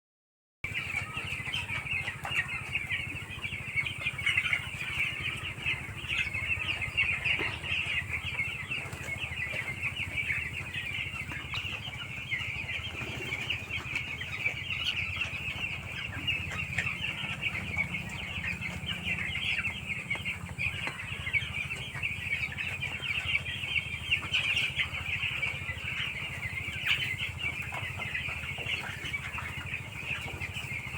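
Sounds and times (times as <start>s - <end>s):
chicks peeping: 0.6s - 30.9s.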